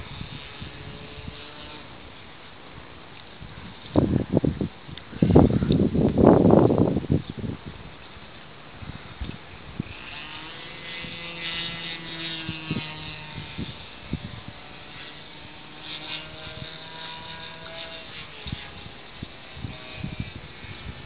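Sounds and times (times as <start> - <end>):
propeller aircraft droning overhead: 0.0 - 21.0.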